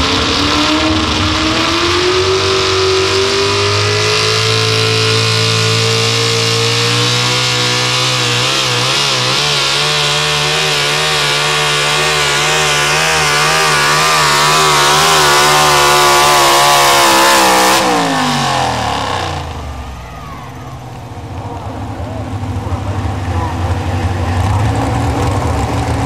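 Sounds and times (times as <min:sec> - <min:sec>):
truck engine running flat out: 0:00.0 - 0:26.0.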